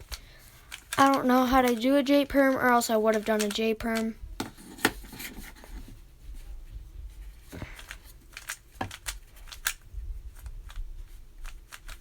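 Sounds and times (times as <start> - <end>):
puzzle cube plastic clicks: 0.0 - 5.6, 7.6 - 12.0.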